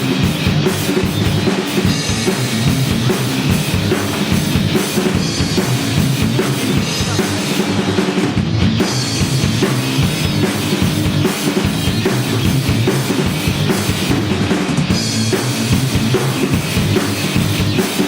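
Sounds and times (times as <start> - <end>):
bass drum beat: 0.0 - 18.0
rock band playing: 0.0 - 18.0.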